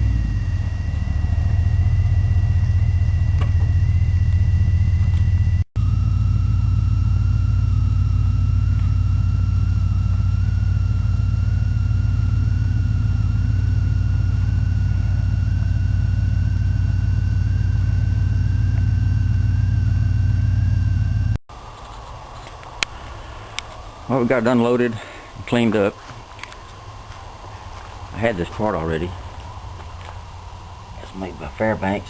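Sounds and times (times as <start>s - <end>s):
vehicle road rumble: 0.0s - 24.4s, 25.0s - 31.6s
thin rising whine: 0.0s - 32.0s.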